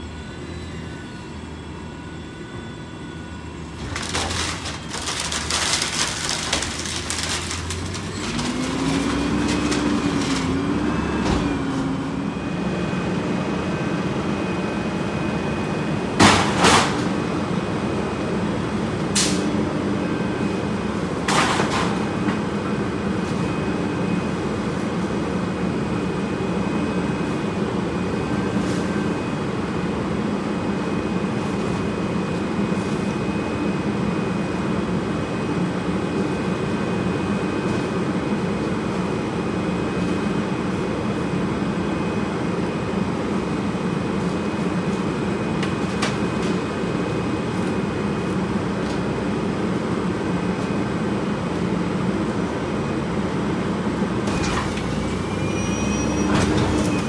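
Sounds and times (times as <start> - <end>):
garbage truck engine running: 0.0 - 57.0.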